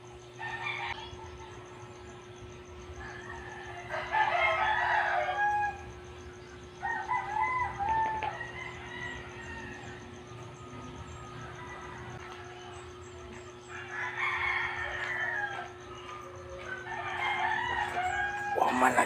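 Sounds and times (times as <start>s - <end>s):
rooster crowing: 0.4s - 1.6s, 3.0s - 19.0s.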